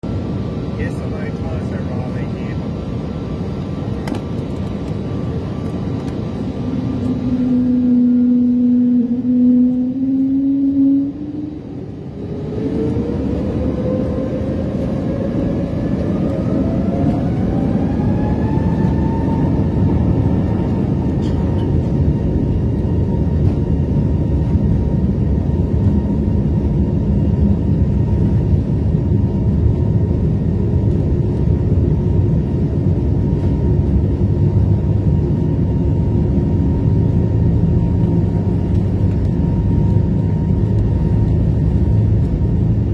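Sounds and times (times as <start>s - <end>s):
jet engine heavy rumble: 0.0s - 42.9s
jet engine whine rising: 0.0s - 42.9s.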